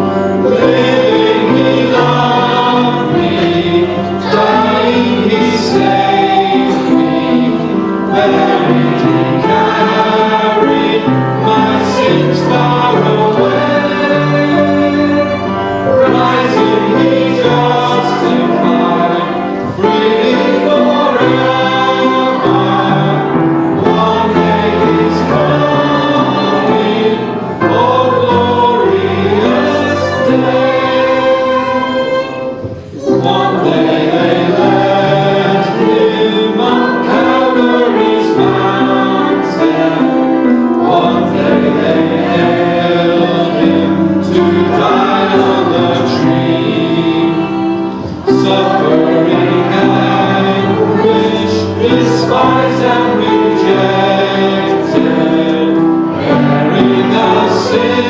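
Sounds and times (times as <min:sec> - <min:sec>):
choir singing a hymn: 0:00.0 - 0:58.0
instrumental accompaniment: 0:00.0 - 0:58.0.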